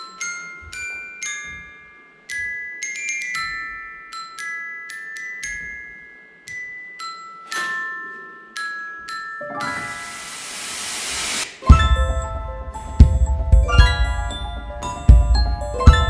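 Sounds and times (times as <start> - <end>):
glockenspiel melody: 0.0 - 16.0.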